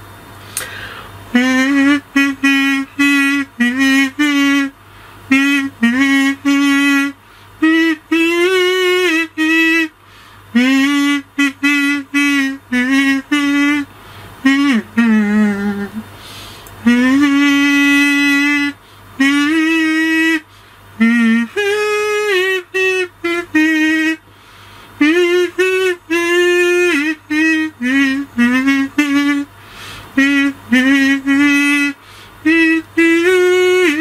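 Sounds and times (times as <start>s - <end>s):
kazoo playing a tune: 0.0s - 34.0s.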